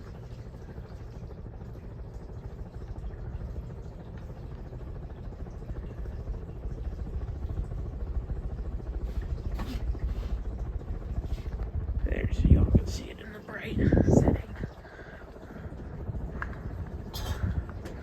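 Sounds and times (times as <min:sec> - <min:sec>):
ceiling fan air rumble: 0:00.0 - 0:18.0.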